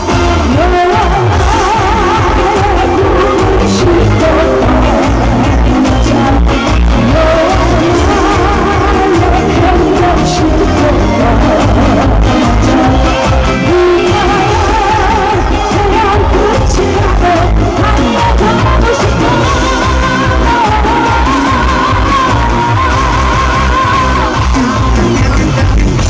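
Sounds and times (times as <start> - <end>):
woman singing into microphone: 0.0 - 24.9
backing track with steady beat: 0.0 - 26.0.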